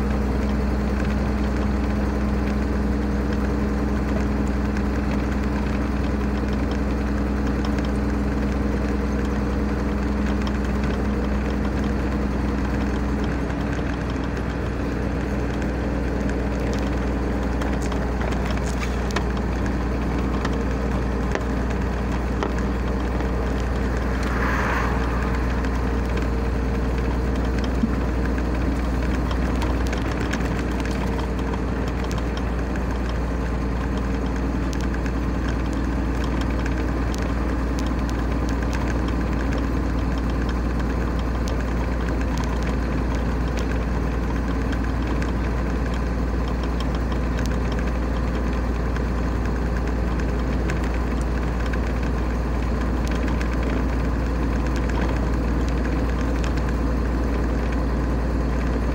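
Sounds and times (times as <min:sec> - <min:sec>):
road noise inside vehicle: 0:00.0 - 0:58.9.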